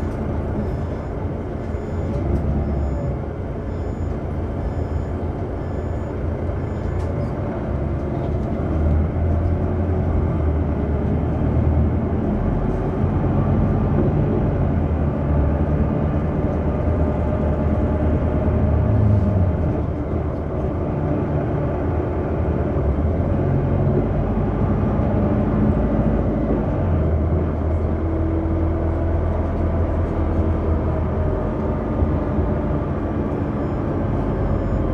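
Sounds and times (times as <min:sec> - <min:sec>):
bus engine drone: 0:00.0 - 0:34.9
road noise: 0:00.0 - 0:34.9.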